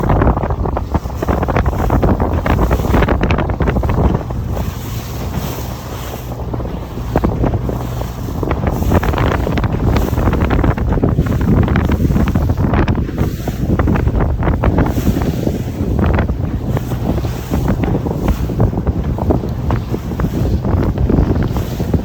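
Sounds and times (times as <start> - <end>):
waves splashing against boat: 0.0 - 22.0
wind buffeting microphone: 0.0 - 22.0.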